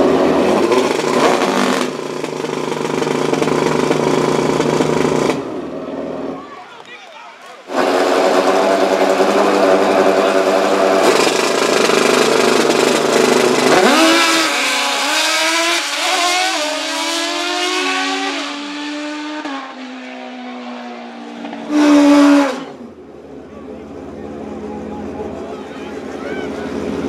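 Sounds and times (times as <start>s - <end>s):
dirt bike engines at full throttle: 0.0s - 6.4s, 7.7s - 27.0s.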